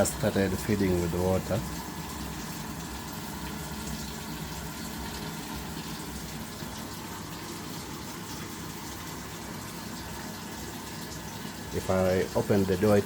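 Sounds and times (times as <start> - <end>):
water pouring into washing machine: 0.0 - 13.0.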